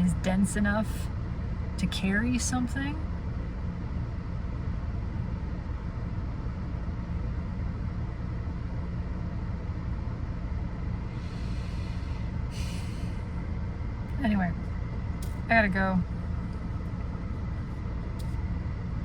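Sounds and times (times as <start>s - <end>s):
car road and engine rumble: 0.0s - 19.0s
faint steady hum: 0.0s - 19.0s.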